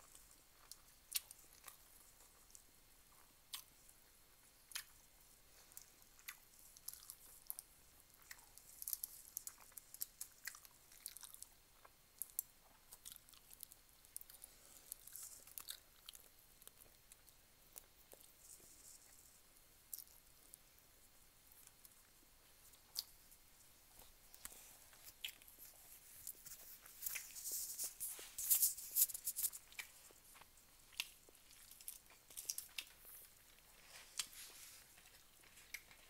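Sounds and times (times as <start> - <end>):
person chewing food: 0.0 - 36.0.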